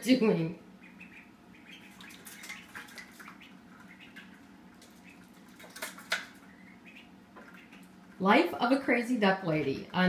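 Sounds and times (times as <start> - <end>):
ducklings peeping: 0.0 - 10.0
ducklings paddling in water: 0.1 - 10.0.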